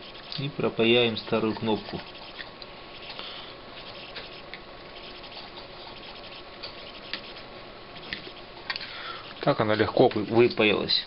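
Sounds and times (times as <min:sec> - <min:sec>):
flux sizzling with crackles: 0:00.0 - 0:10.7.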